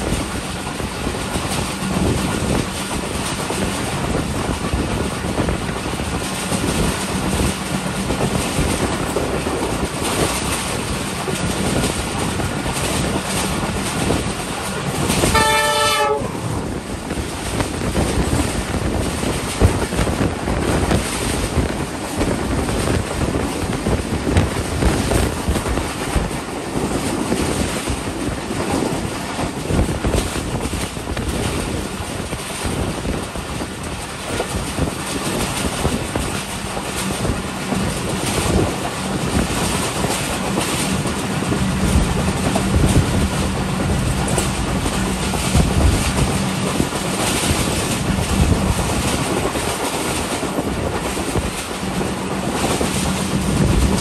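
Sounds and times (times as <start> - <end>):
train rushing noise: 0.0 - 54.0
wheels clattering over track: 0.0 - 54.0.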